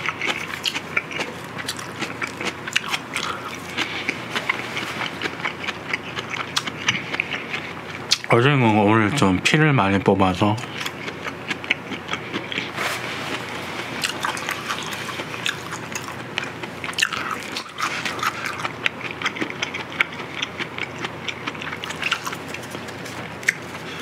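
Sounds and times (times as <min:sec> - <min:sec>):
wet chewing mouth sounds: 0:00.0 - 0:08.3, 0:10.6 - 0:24.0.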